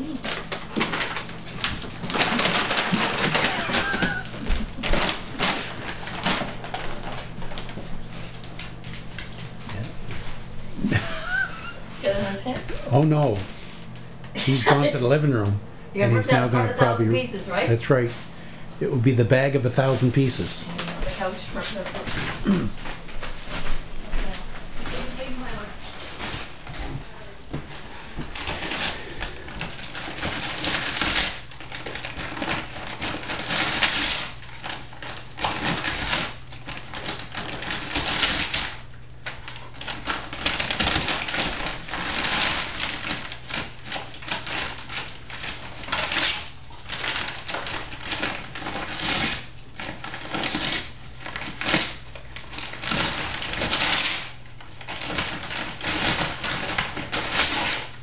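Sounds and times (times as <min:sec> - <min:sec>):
paper crinkling and tearing: 0:00.0 - 0:15.2, 0:19.1 - 0:58.0
dog chewing paper bag: 0:00.0 - 0:58.0.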